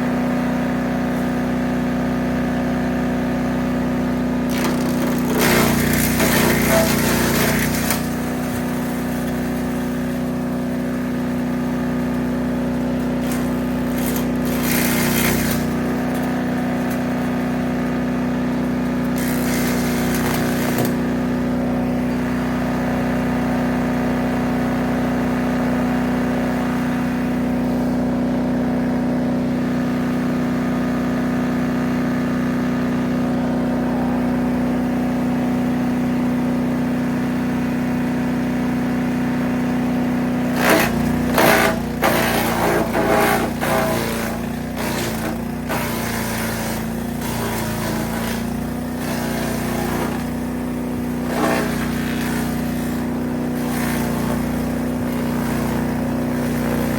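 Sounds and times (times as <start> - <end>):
small gas engine running: 0.0 - 56.9
wood chipper chipping brush: 0.0 - 56.9.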